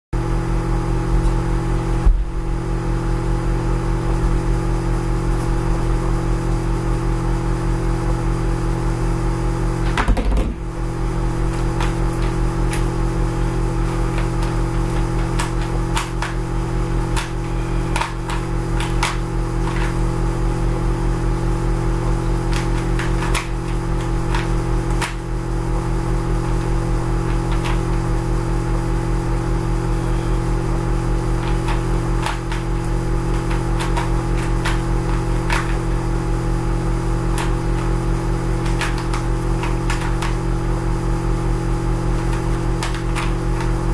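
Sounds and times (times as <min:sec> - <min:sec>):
loud electrical hum: 0:00.2 - 0:43.9.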